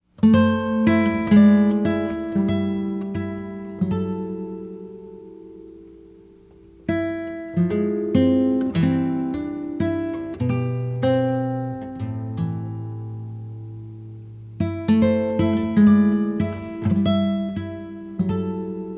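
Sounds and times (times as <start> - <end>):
plucked guitar music: 0.1 - 18.9.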